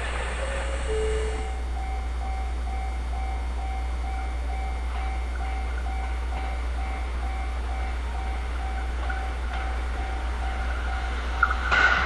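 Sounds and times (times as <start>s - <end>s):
railway warning beeper: 0.2s - 12.0s.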